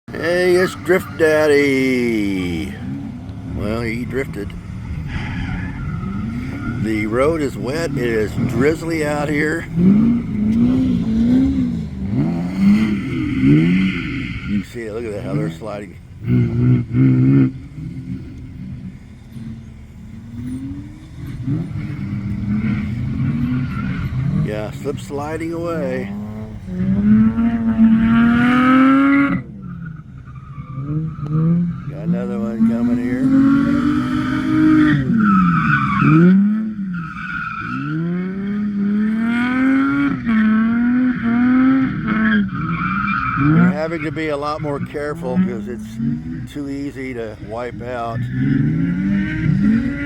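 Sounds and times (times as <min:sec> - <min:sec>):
car engine revving: 0:00.0 - 0:50.0
tyres skidding: 0:00.0 - 0:50.0.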